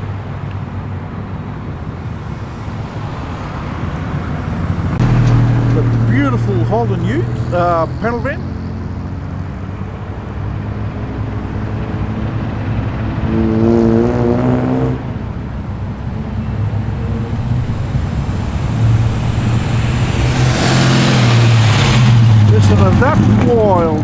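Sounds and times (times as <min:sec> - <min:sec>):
car engine revving: 0:00.0 - 0:24.0
car engines rumbling: 0:00.0 - 0:24.0.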